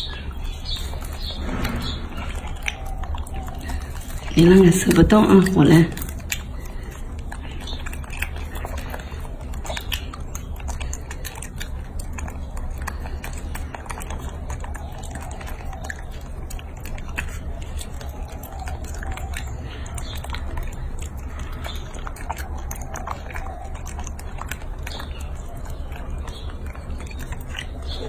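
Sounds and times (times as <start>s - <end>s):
monkeys chewing wet fruit: 0.0s - 28.0s.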